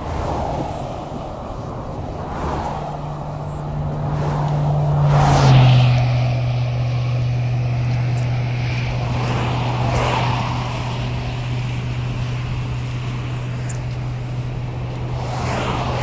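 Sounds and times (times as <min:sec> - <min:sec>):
low traffic hum: 0:00.0 - 0:16.0
vehicles swishing past: 0:00.0 - 0:16.0.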